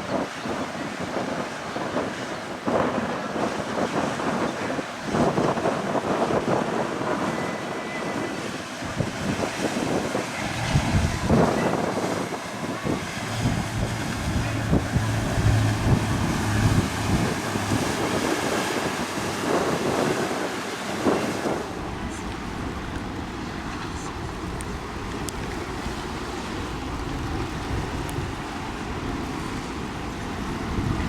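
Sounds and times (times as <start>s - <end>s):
boat engine hum: 0.0s - 31.0s
choppy water washing: 0.0s - 31.0s
wind buffeting microphone: 0.0s - 31.0s.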